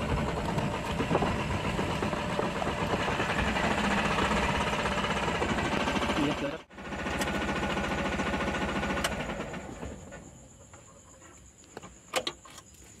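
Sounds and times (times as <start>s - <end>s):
truck engine idling: 0.0s - 10.5s.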